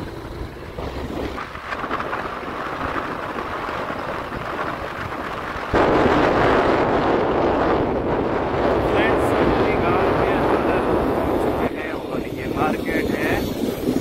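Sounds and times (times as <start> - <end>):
vehicle rumble on road: 0.0 - 14.0
wind rushing over microphone: 0.0 - 14.0.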